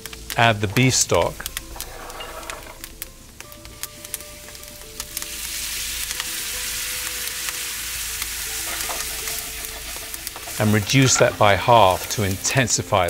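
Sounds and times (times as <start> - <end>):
crackles in a pan: 0.0 - 13.0
stock sizzling in a hot skillet: 0.0 - 13.0.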